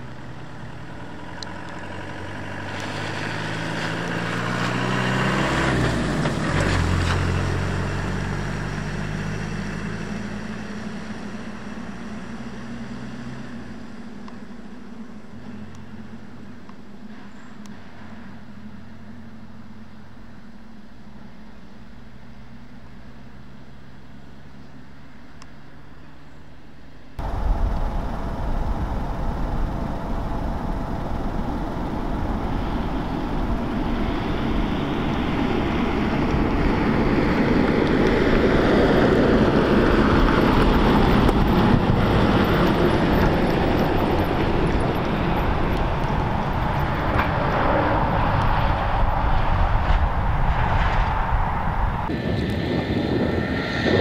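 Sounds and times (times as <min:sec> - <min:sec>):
diesel engine driving past: 0:00.0 - 0:20.1, 0:27.2 - 0:54.0.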